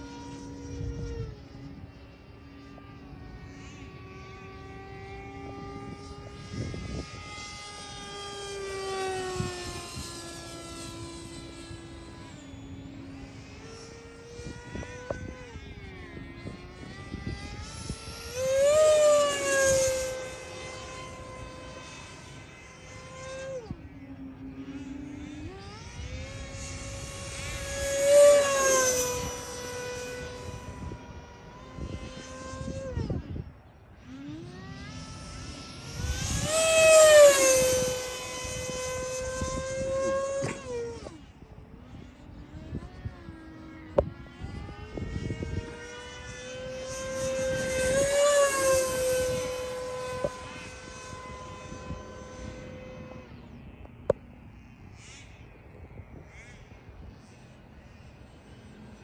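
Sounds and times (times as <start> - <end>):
model jet whine passing: 0.0 - 59.0.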